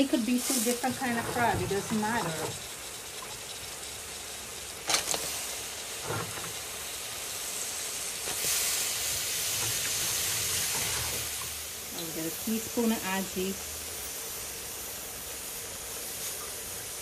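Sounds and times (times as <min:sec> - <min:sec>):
crab sizzling in a hot pan: 0:00.0 - 0:17.0.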